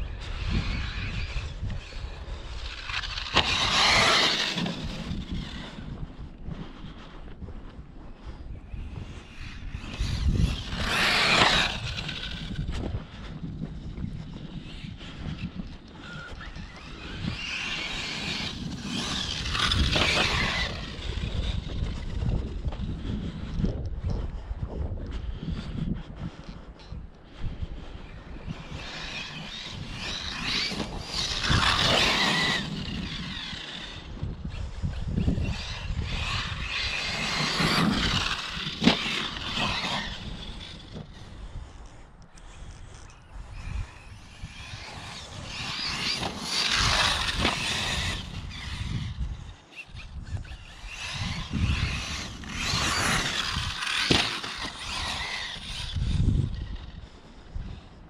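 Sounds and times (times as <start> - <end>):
electric motor whining: 0.0 - 6.0, 9.2 - 12.9, 14.3 - 22.7, 28.0 - 57.2.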